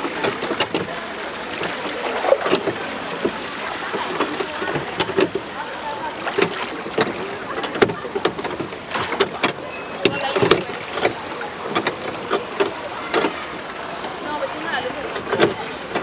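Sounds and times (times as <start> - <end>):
water splashing off oar blades: 0.0 - 16.0.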